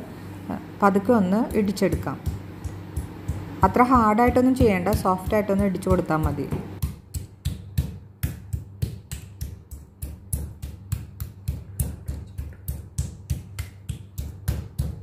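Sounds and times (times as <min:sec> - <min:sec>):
mallet pounding meat on board: 0:01.4 - 0:15.0.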